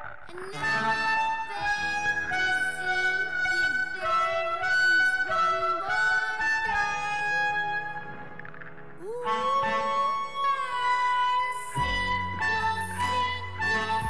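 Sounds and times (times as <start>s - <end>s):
harmonica melody with bent notes: 0.0s - 14.0s.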